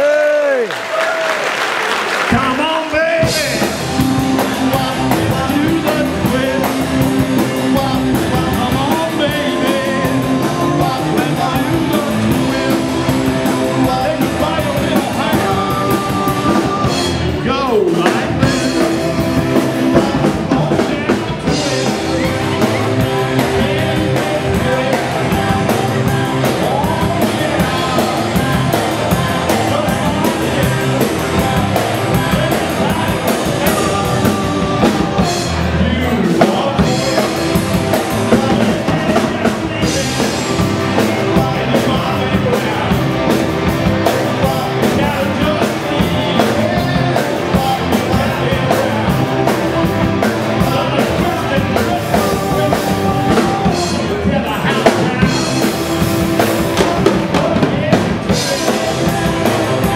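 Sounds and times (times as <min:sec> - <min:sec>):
drum kit: 0:01.0 - 0:59.9
bass guitar: 0:02.3 - 0:59.9
person singing: 0:02.3 - 0:59.9
electric guitar: 0:03.2 - 0:59.9.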